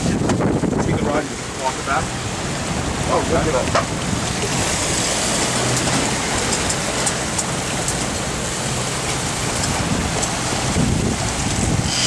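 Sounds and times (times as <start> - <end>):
waves breaking along hull: 0.0 - 12.0
wind buffeting microphone: 0.0 - 12.0.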